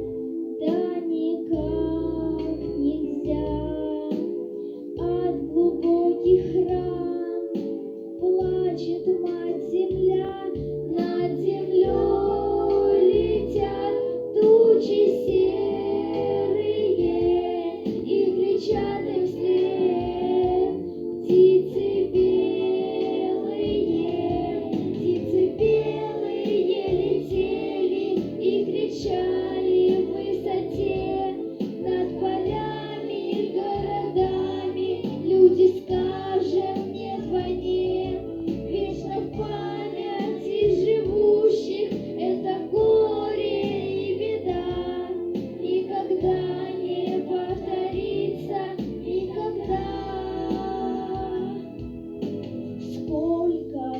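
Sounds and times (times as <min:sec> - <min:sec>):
instrumental backing: 0:00.0 - 0:53.9
person singing: 0:00.6 - 0:43.1, 0:49.4 - 0:51.7, 0:53.1 - 0:53.9.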